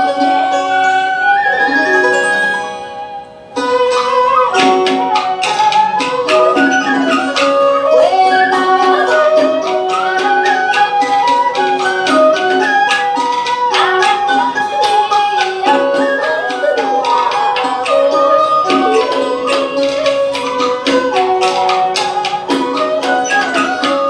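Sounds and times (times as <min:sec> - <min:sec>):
melody instrument holding notes: 0:00.0 - 0:24.0
quick percussion strokes: 0:01.8 - 0:24.0.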